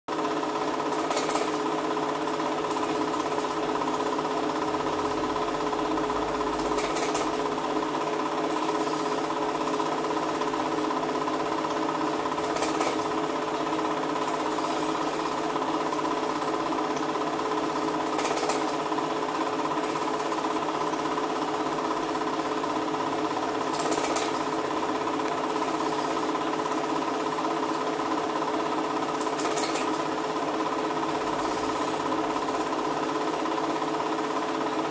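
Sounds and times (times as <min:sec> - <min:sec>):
film projector clattering: 0:00.1 - 0:34.9.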